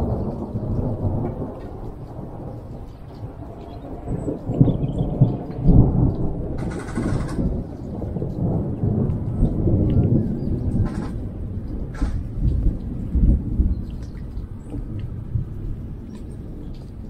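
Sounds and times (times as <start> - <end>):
low uneven storm rumble: 0.0 - 17.0.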